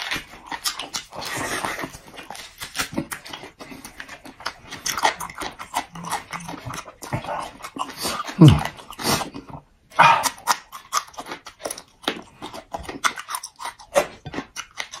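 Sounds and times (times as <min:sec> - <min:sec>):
person chewing meat: 0:00.0 - 0:15.0.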